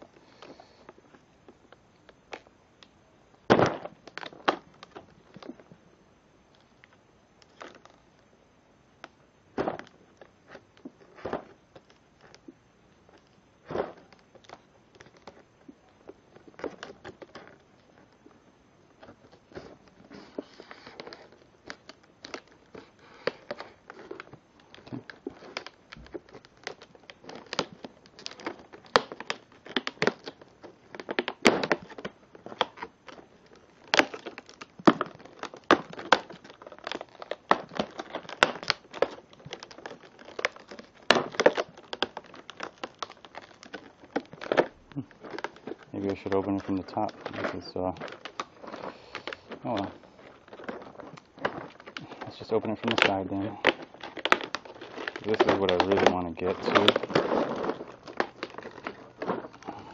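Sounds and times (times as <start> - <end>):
plastic packaging crackling: 0.0 - 59.9.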